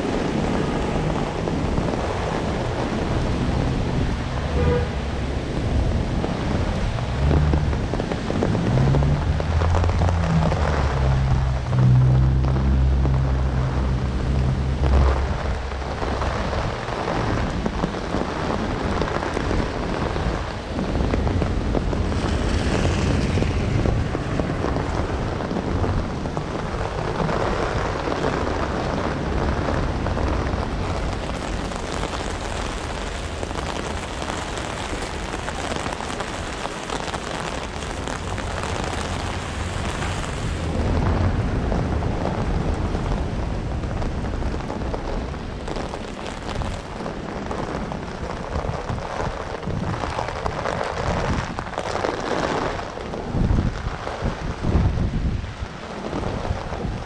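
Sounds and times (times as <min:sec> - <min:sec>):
heavy rain: 0:00.0 - 0:57.0
strong wind: 0:00.0 - 0:57.0.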